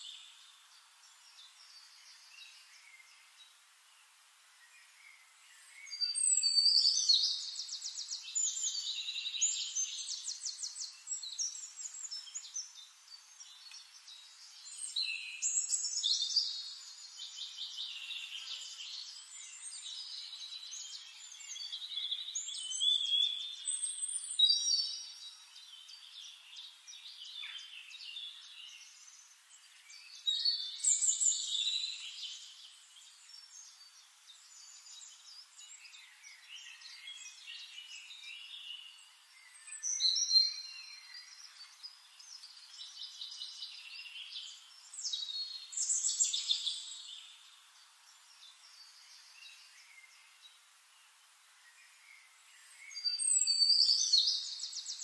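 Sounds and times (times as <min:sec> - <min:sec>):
bird chirps: 0:04.6 - 0:50.6, 0:51.6 - 0:55.0.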